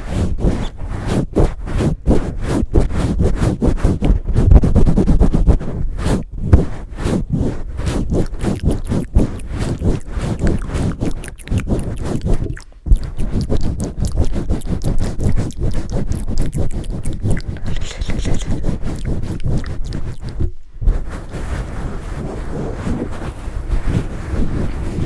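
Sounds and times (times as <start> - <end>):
rubbing against microphone: 0.0 - 25.0.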